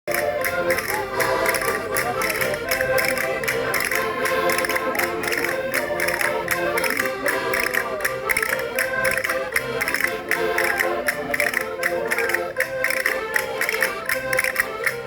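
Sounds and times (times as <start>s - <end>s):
concertinas playing dance tune: 0.1s - 15.0s.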